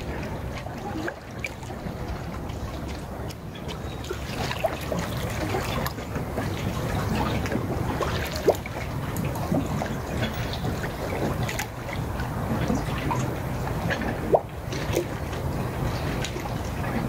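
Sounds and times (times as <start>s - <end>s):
water lapping against rocks: 0.0s - 17.0s
wind rumbling on microphone: 0.0s - 17.0s.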